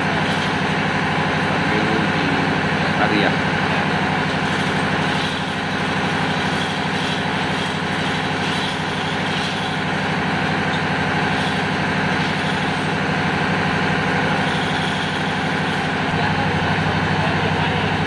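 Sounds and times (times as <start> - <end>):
diesel machinery drone: 0.0 - 18.0.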